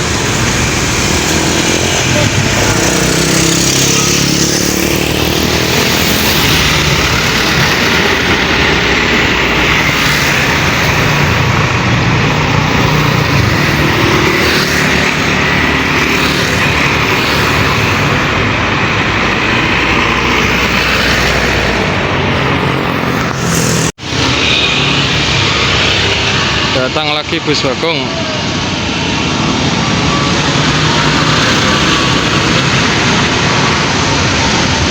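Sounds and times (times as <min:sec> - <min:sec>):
busy road traffic: 0:00.0 - 0:34.9.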